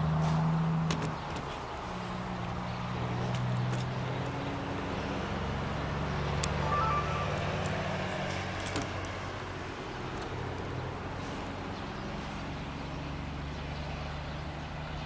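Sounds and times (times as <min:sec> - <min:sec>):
locomotive engine drone: 0:01.6 - 0:14.2.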